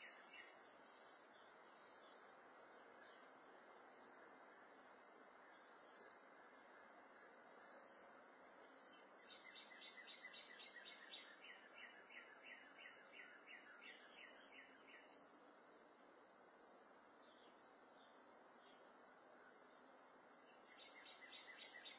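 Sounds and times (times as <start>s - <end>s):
outdoor background hiss: 0.0s - 21.9s
songbird song: 0.0s - 21.9s.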